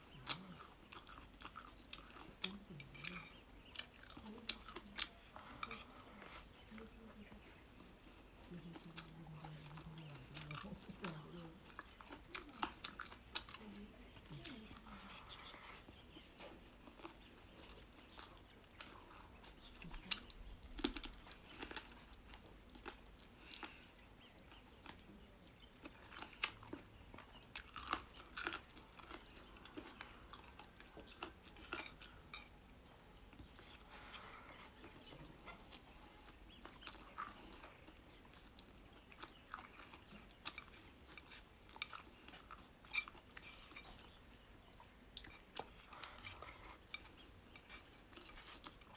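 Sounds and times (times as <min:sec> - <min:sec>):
chewing and crunching: 0:00.0 - 0:48.9.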